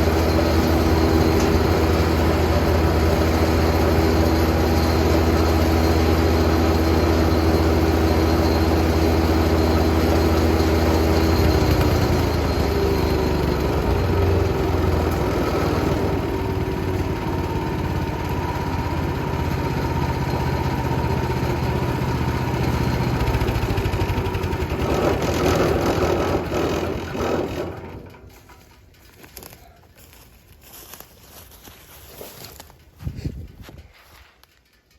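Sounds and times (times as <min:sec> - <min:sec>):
wood chipper engine running: 0:00.0 - 0:34.8.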